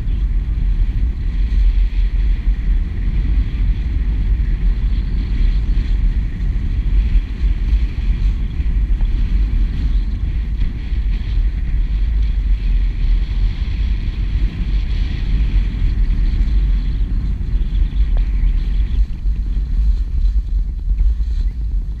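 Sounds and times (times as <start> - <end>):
wind buffeting microphone: 0.0 - 22.0
skis sliding on snow: 0.1 - 22.0.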